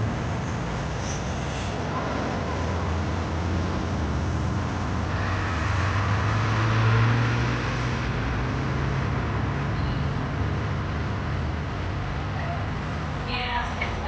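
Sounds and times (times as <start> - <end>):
car engine and tyre noise: 0.0 - 13.3.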